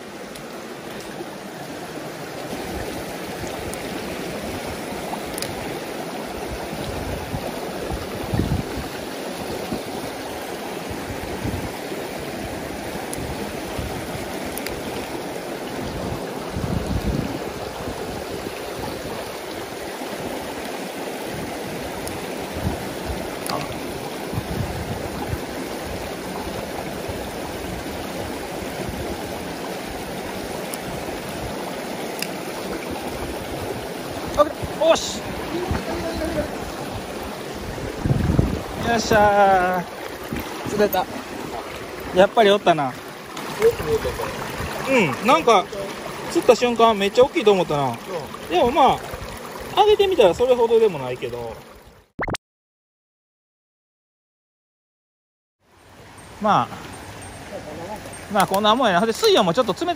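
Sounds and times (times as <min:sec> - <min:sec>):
stream rushing over rocks: 0:00.0 - 0:52.1, 0:55.7 - 0:59.9.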